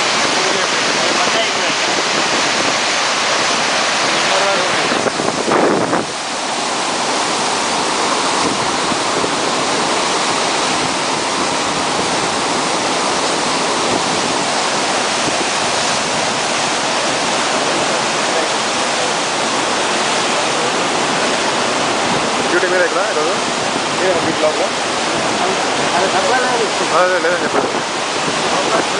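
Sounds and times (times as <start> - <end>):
floodwater rushing: 0.0 - 28.9.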